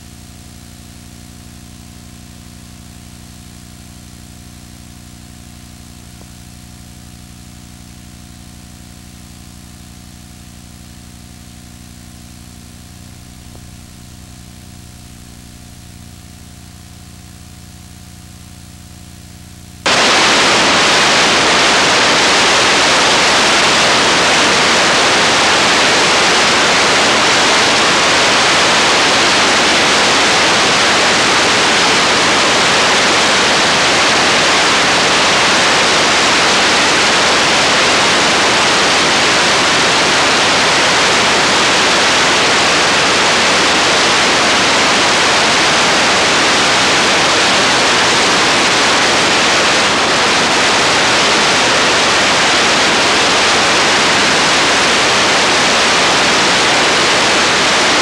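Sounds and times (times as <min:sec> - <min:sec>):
loud steady hiss: 0:00.0 - 0:58.0.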